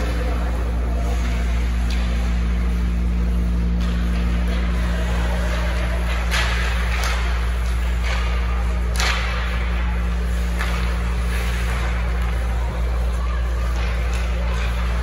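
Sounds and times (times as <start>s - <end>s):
skates and sticks scraping on ice: 0.0s - 15.0s
steady low hum: 0.0s - 15.0s.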